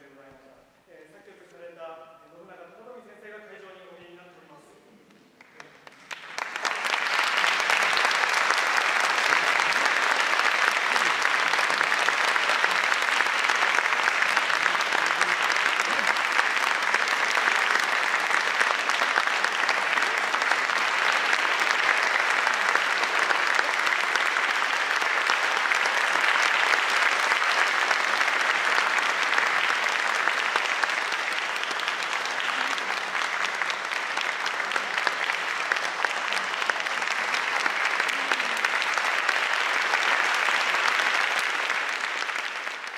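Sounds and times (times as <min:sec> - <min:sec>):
audience applause: 0:05.4 - 0:42.9.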